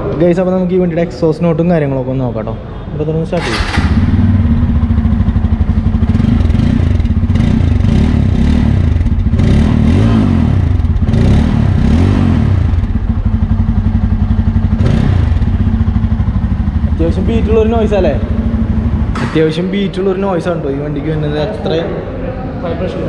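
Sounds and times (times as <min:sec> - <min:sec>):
motorcycle engine idling and revving: 0:03.4 - 0:22.2.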